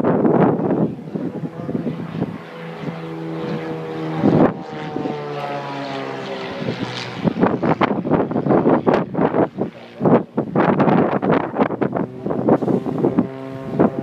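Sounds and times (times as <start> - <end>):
propeller aircraft engine droning: 0.0 - 14.0
wind buffeting microphone: 0.0 - 14.0.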